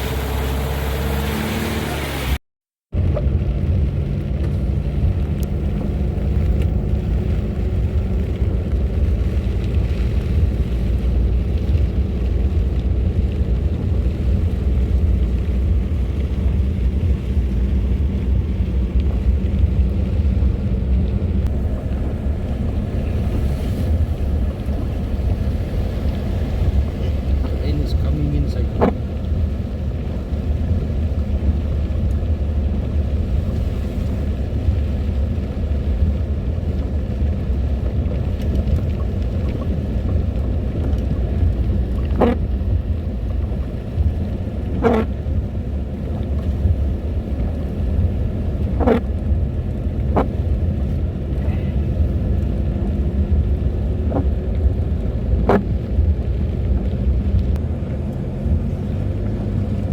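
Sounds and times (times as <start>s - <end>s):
vehicle engine rumble: 0.0s - 59.9s.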